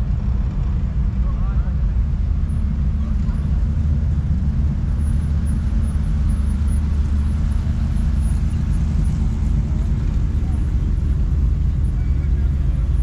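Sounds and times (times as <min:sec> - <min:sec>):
car engines cruising past: 0:00.0 - 0:13.0.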